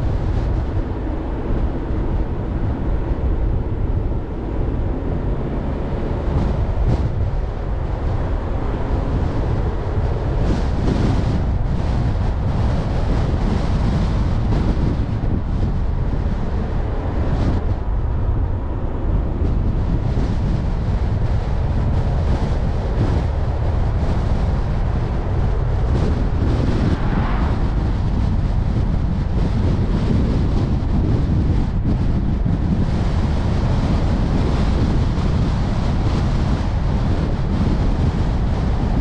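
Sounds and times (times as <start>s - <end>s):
road and wind rumble: 0.0s - 39.0s
wind buffeting microphone: 0.0s - 39.0s.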